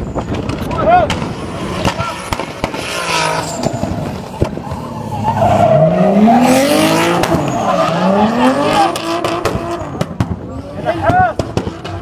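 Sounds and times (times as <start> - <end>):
car engine revving hard: 1.2 - 12.0.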